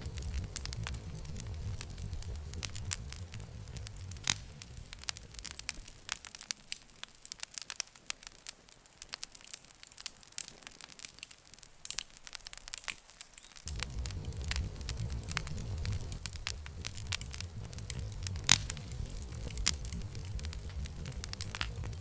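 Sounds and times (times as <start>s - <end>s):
low rumble of flames: 0.0s - 12.8s, 13.6s - 22.0s
wood fire crackling: 0.0s - 22.0s.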